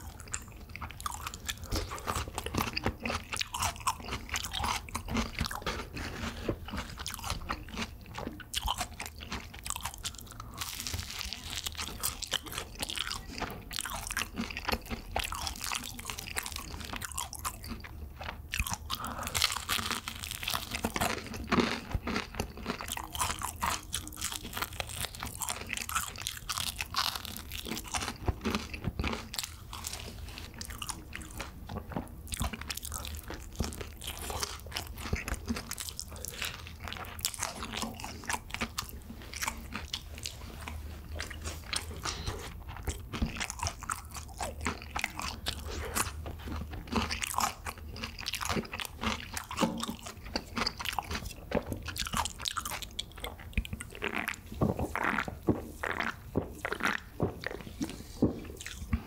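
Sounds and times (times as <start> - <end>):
crunchy chewing of fried chicken: 0.0 - 59.0.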